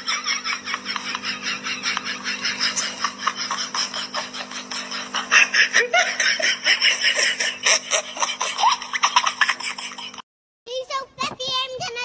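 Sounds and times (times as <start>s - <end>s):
person laughing: 0.0s - 10.2s.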